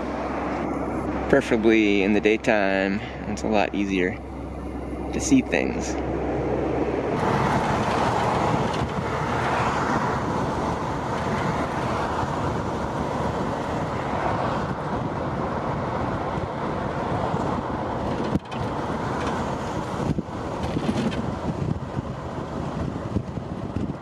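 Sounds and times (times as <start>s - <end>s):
road traffic rushing: 0.0s - 24.0s
wind on microphone: 3.2s - 24.0s.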